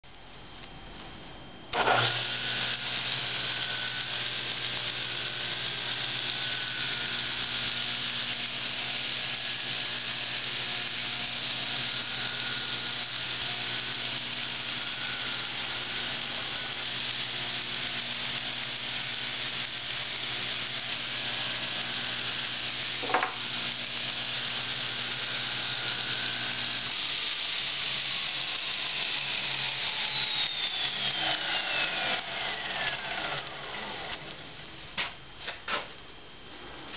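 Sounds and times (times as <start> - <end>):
machine whine winding down: 1.7 - 34.5
belt grinder running: 1.8 - 34.4.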